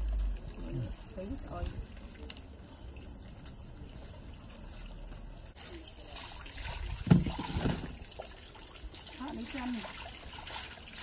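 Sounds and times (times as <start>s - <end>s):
water trickling from tap: 0.0s - 11.0s.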